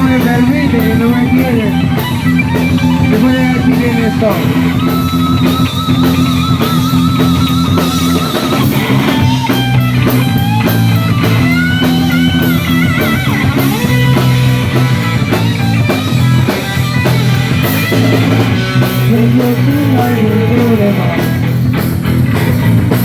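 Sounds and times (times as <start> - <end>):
bass: 0.0 - 23.0
drums: 0.0 - 23.0
electric guitar solo: 0.0 - 23.0.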